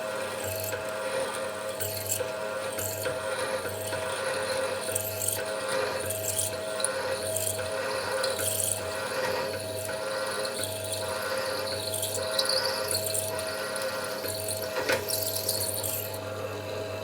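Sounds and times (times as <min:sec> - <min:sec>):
tool cutting metal: 0:01.8 - 0:16.2.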